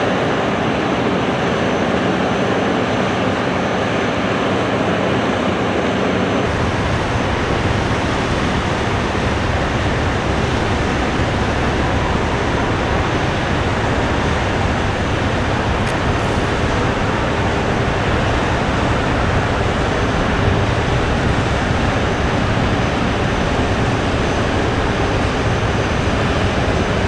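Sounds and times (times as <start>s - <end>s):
passing train rumbling: 1.3s - 27.0s.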